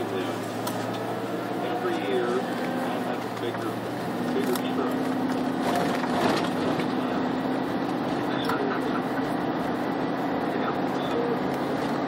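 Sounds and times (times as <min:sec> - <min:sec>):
vehicle running with low hum: 0:00.0 - 0:12.0.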